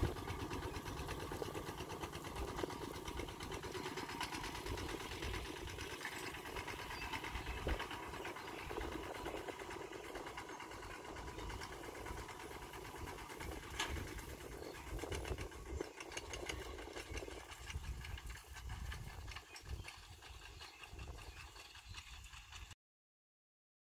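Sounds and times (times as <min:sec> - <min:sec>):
small tractor engine chugging: 0:00.0 - 0:22.8.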